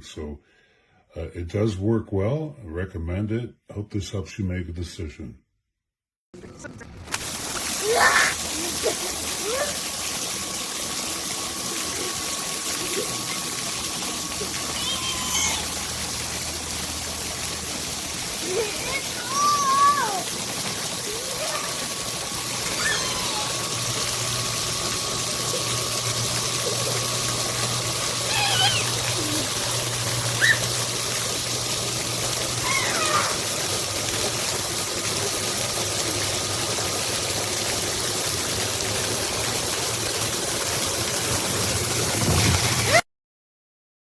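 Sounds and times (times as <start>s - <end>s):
low pump motor hum: 6.4s - 43.0s
water flowing steadily: 6.4s - 43.0s.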